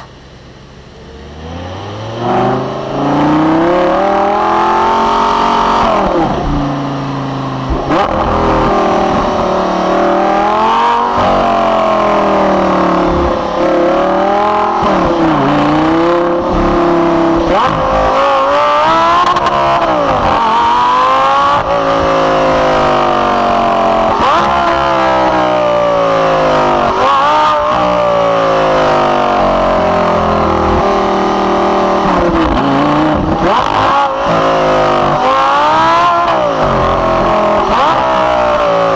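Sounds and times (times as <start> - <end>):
car engine accelerating hard: 0.8 - 38.9.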